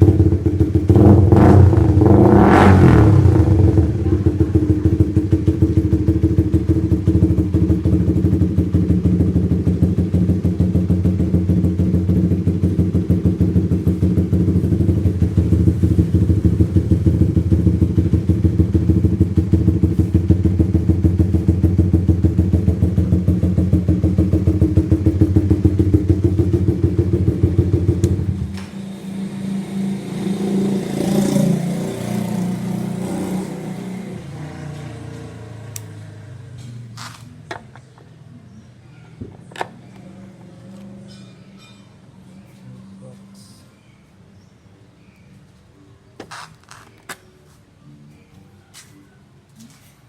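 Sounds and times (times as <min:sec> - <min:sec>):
motorcycle engine idling: 0:00.0 - 0:41.4.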